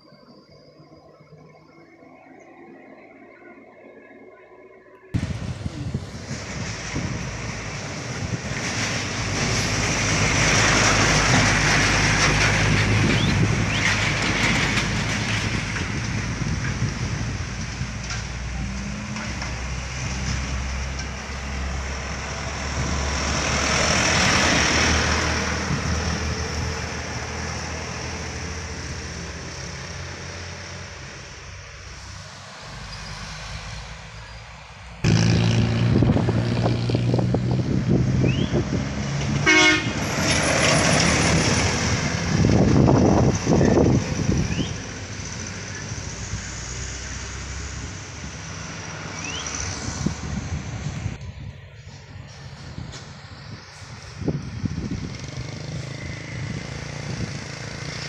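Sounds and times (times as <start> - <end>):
heavy vehicles passing: 5.2 - 58.0
loud engine starting close by: 5.2 - 58.0.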